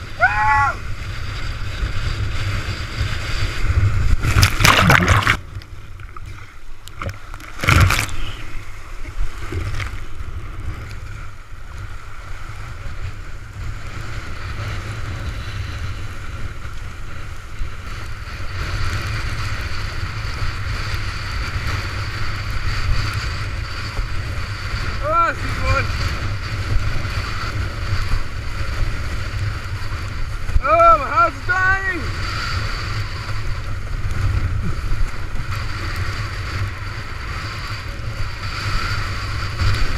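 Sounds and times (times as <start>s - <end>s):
wind rumbling on microphone: 0.0s - 39.9s
windsurf board planing through water: 0.0s - 39.9s.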